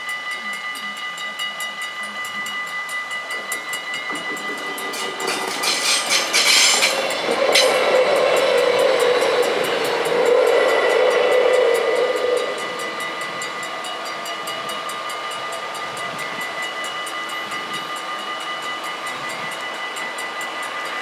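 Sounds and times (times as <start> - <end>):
crossing bells ringing: 0.0 - 21.0
diesel railcar rumble: 0.0 - 21.0.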